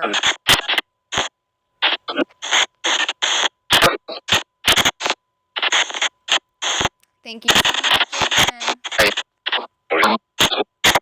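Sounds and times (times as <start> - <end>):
chopped bursts of static: 0.0 - 11.0.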